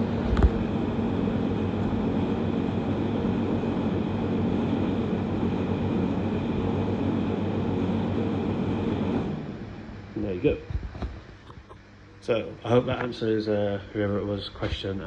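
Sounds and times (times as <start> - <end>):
tumble dryer humming: 0.0 - 15.0.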